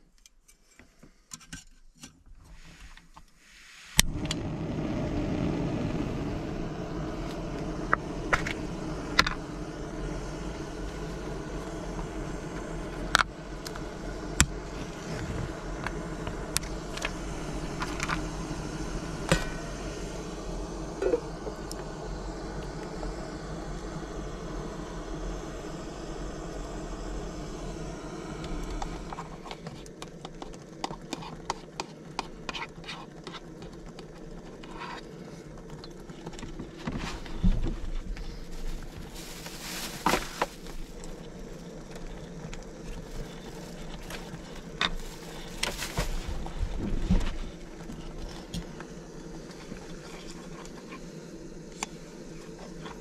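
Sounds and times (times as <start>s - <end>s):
gas burner hissing: 2.6s - 53.0s.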